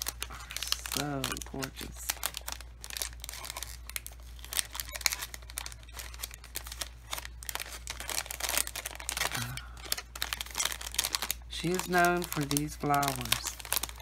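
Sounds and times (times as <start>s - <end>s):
cellophane bag crinkling: 0.0s - 14.0s.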